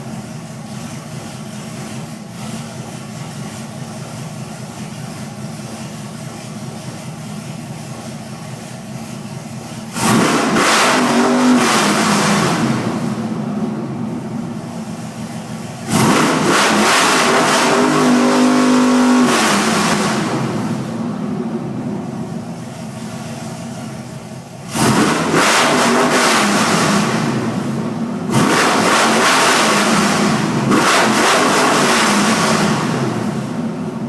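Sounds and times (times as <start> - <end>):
truck engine idling and revving: 0.0 - 34.0.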